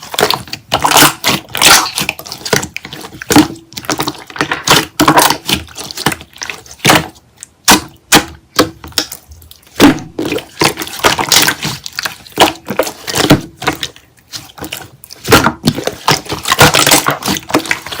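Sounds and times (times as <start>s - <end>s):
slime squished by hand: 0.0s - 18.0s.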